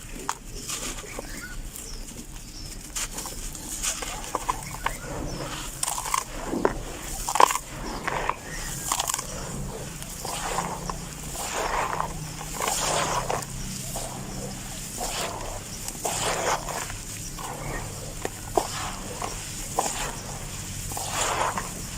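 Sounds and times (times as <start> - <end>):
dirt crumbling with gritty crunches: 0.0 - 21.9.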